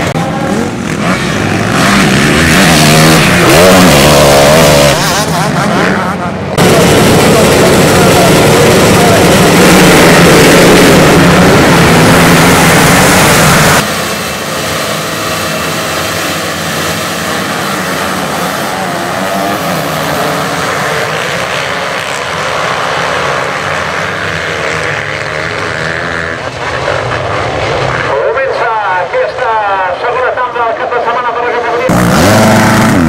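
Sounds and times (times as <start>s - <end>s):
motocross bikes revving: 0.0s - 29.0s, 31.0s - 33.0s
motorbikes racing away: 0.0s - 30.1s, 31.0s - 33.0s.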